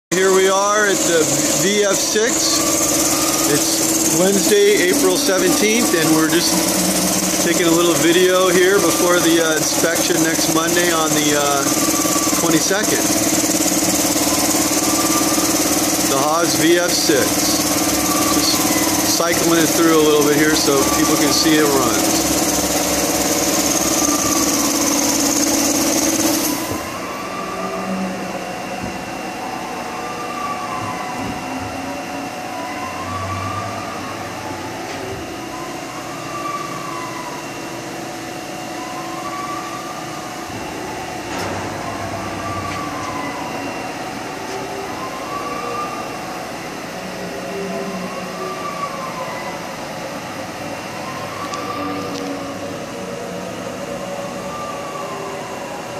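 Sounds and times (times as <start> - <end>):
axis drives whining: 0.1 - 55.9
machine hum: 0.1 - 55.9.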